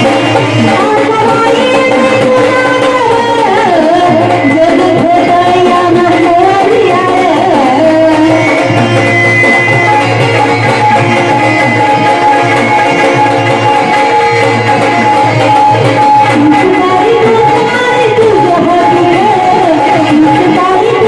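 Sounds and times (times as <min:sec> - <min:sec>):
hand drum: 0:00.0 - 0:21.0
sustained melody instrument: 0:00.0 - 0:21.0.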